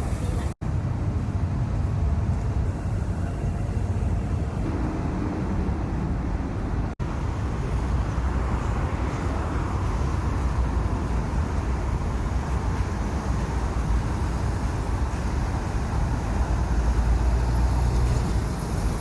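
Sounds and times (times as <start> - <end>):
low rumbling outdoor ambience: 0.0 - 19.0.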